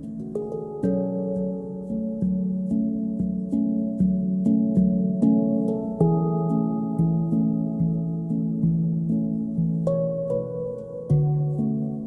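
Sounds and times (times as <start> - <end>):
soft ambient instrumental music: 0.0 - 12.0.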